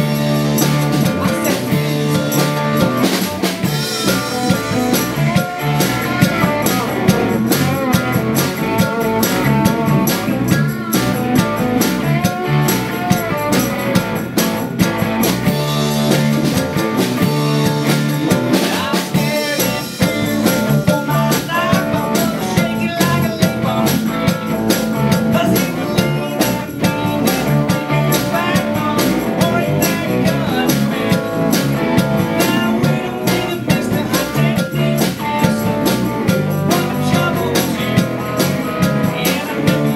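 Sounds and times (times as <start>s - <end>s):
man singing: 0.0s - 10.6s, 16.0s - 39.9s
live band playing: 0.0s - 39.9s.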